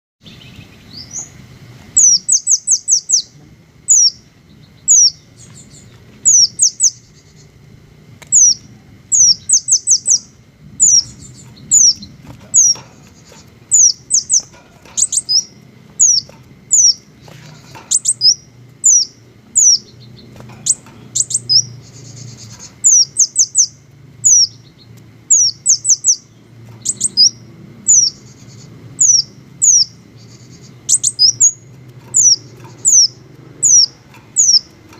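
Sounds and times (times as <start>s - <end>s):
bird chirping: 0.2s - 7.6s, 8.2s - 34.9s.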